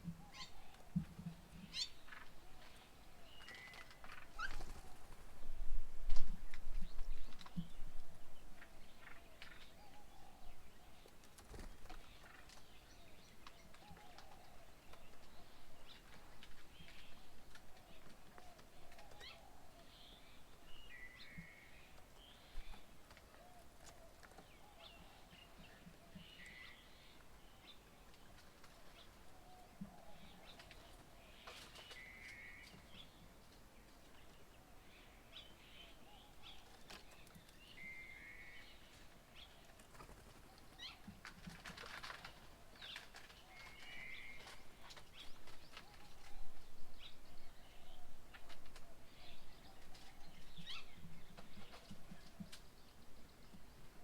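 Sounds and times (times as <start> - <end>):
small birds chirping: 0.0 - 5.3, 6.2 - 54.0.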